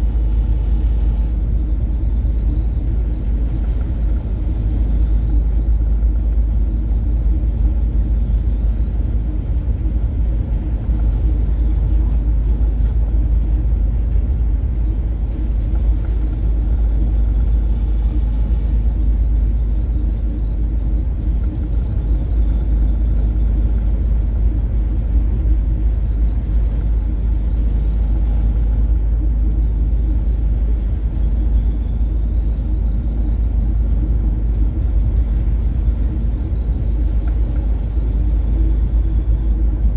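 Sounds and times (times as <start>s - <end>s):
ship diesel engine drone: 0.0s - 39.9s.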